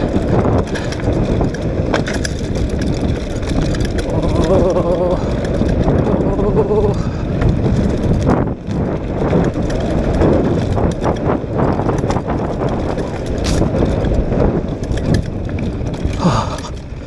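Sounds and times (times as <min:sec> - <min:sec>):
bike rattling over bumps: 0:00.0 - 0:17.0
bike tyres rolling over dirt: 0:00.0 - 0:17.0
wind rumble on microphone: 0:00.0 - 0:17.0.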